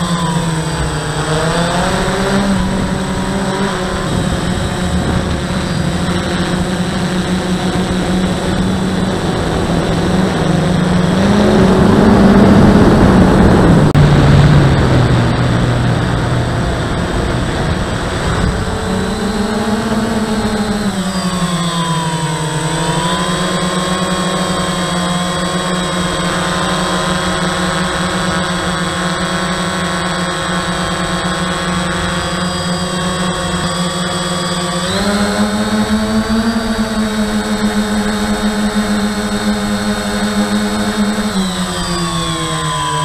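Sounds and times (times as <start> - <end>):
drone propellers buzzing: 0.0 - 43.0
high whine: 0.0 - 43.0.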